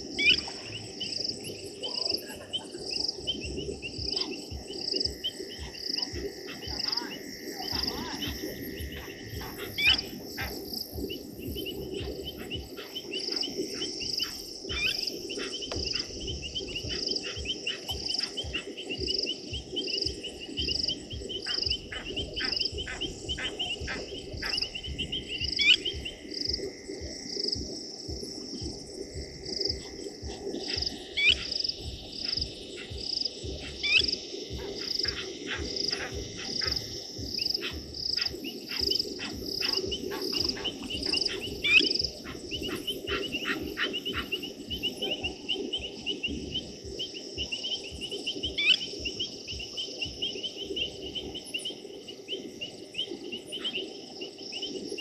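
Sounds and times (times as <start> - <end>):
pulsing insect chirp: 0.0 - 55.0.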